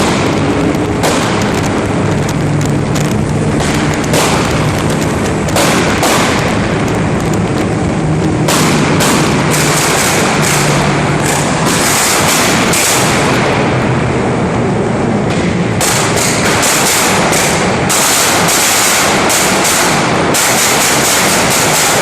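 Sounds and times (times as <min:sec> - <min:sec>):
car engine running: 0:00.0 - 0:22.0
car exhaust popping and banging: 0:00.0 - 0:22.0.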